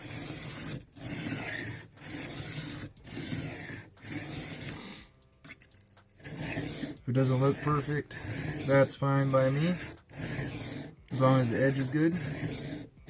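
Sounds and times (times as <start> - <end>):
knife scraping on sharpening plate: 0.0 - 13.0.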